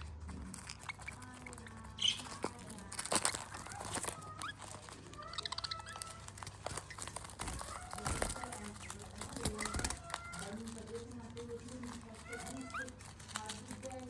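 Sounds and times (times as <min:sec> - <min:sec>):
budgerigars chattering: 0:00.6 - 0:13.8.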